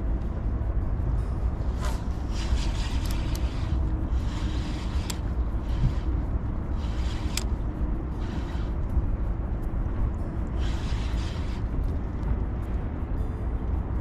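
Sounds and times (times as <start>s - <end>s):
wind buffeting microphone: 0.0s - 14.0s
sharp ticks: 1.5s - 12.9s.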